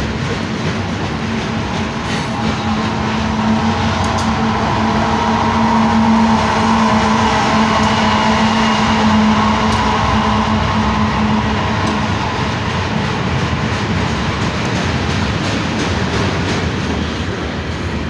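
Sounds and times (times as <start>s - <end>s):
diesel locomotive engine hum: 0.0s - 18.0s
train wheels on rails: 0.0s - 18.0s.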